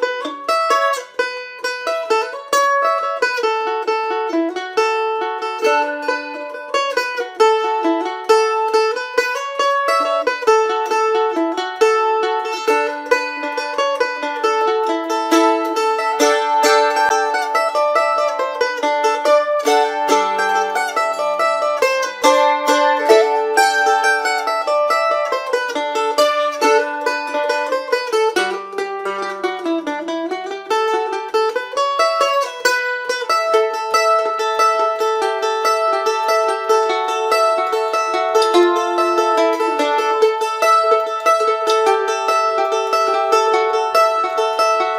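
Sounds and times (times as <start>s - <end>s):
mandolin picking a melody: 0.0s - 44.9s.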